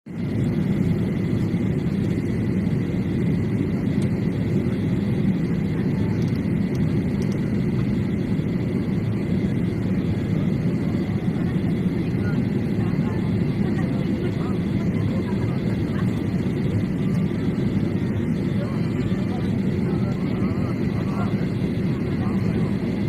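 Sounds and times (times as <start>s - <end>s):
jet engine rumble: 0.1s - 23.0s.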